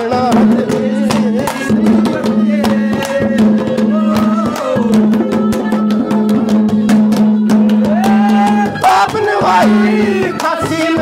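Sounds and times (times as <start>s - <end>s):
hand-drum strokes: 0.0s - 11.0s.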